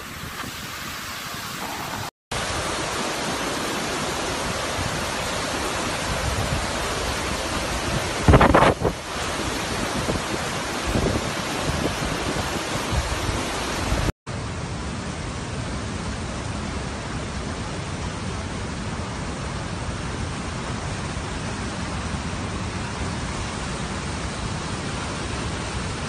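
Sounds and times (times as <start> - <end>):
floodwater rushing: 0.0 - 14.1, 15.1 - 26.0.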